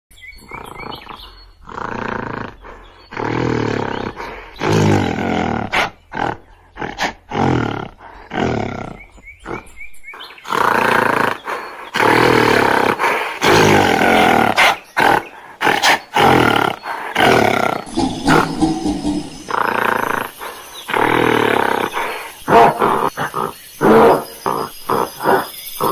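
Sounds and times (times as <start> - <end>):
gorilla roaring: 0.4 - 25.9.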